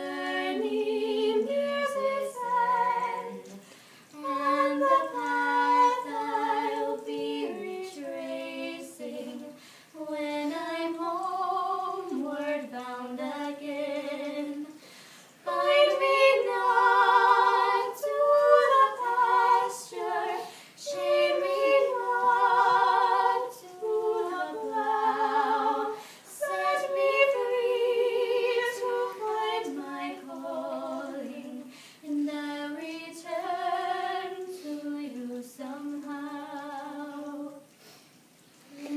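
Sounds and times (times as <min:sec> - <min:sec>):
two women singing unaccompanied: 0:00.0 - 0:38.0.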